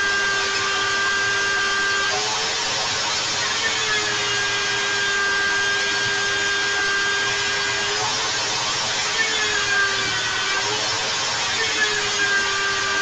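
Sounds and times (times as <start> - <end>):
electric drill motor whining: 0.0 - 13.0.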